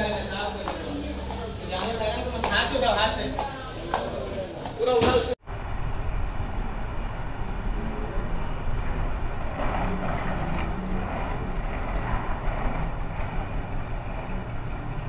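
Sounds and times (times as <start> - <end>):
street background rumble: 0.0 - 15.0.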